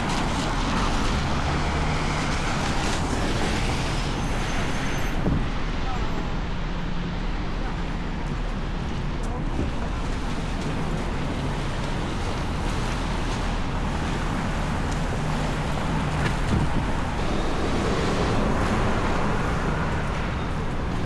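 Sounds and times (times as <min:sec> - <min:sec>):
city traffic passing cars: 0:00.0 - 0:21.0.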